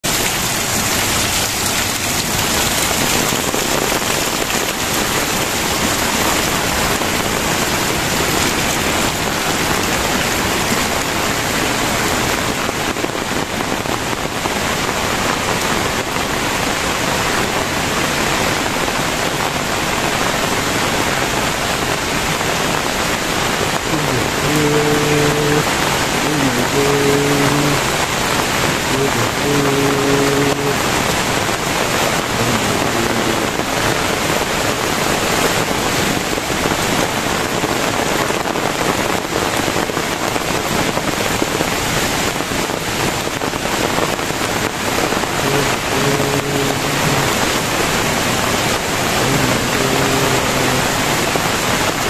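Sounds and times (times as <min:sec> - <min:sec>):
heavy rain on foliage: 0:00.0 - 0:52.0.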